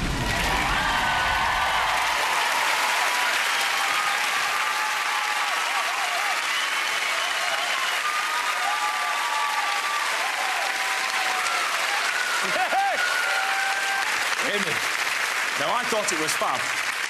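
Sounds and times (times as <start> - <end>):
crowd cheering and whooping: 0.0 - 14.6
audience applauding: 0.0 - 17.0.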